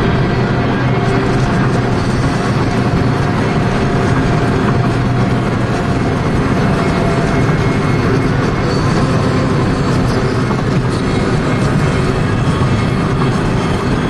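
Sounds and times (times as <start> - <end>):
vehicle driving at highway speed: 0.0 - 14.0.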